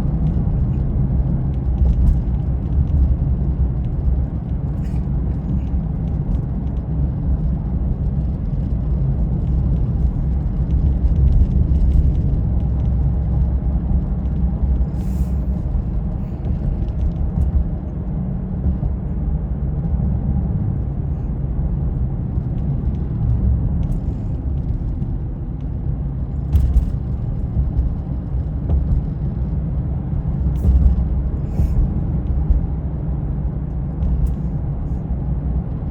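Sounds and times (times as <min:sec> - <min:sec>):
car driving rumble: 0:00.0 - 0:35.9.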